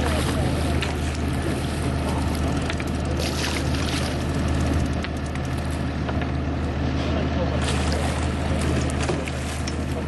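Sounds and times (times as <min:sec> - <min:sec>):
boat engine drone: 0:00.0 - 0:10.0.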